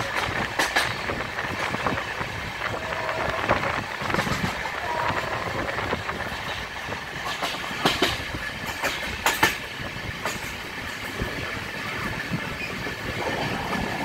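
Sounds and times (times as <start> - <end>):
train running rumble: 0.0 - 14.0
wheels clacking over rail joints: 0.0 - 14.0.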